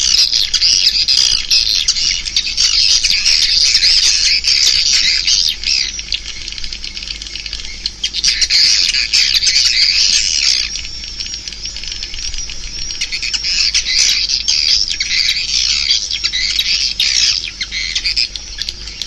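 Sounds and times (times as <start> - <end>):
flock of birds twittering: 0.0 - 19.0.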